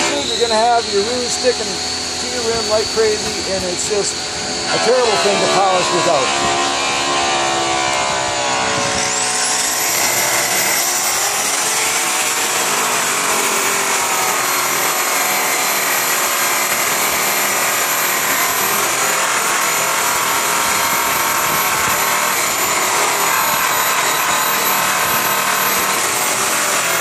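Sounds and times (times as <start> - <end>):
electric polisher motor whine: 0.0 - 27.0.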